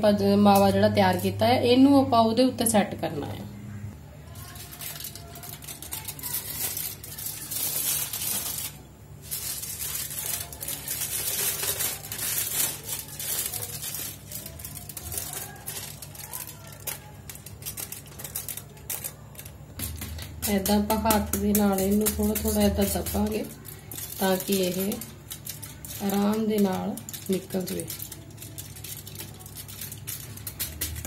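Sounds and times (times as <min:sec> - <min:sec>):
aluminium foil crinkling: 0:04.2 - 0:31.0.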